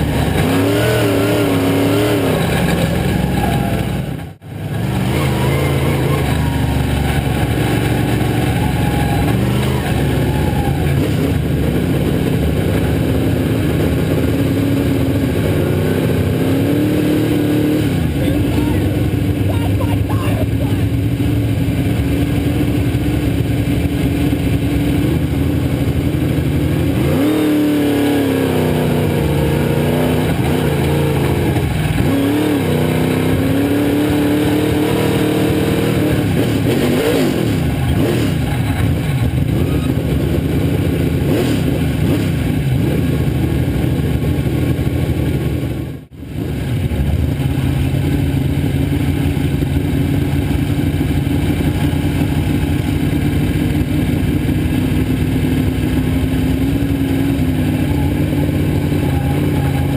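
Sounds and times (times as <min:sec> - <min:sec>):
race car engine revving and idling: 0:00.0 - 0:59.9.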